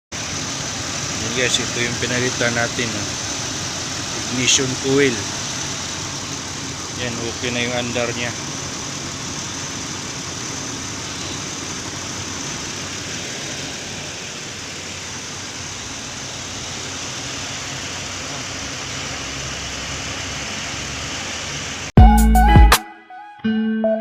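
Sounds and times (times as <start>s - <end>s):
car engine idling: 0.1s - 21.9s.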